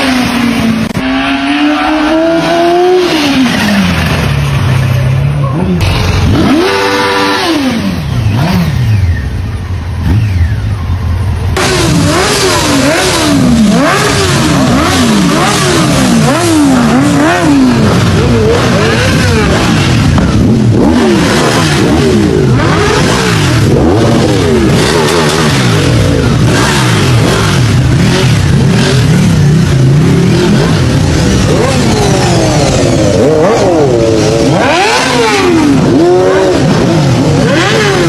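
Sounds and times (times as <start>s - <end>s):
motorbike engine revving: 0.0s - 38.0s.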